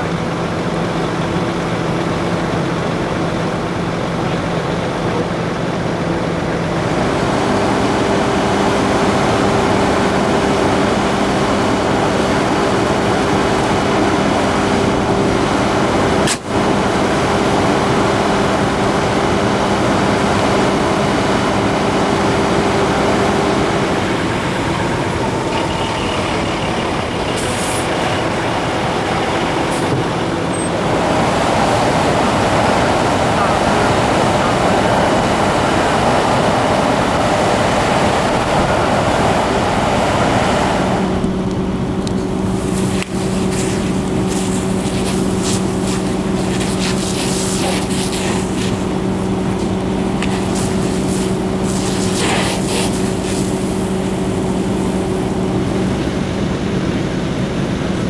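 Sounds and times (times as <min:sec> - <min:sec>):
fire truck engine running: 0:00.0 - 0:58.0.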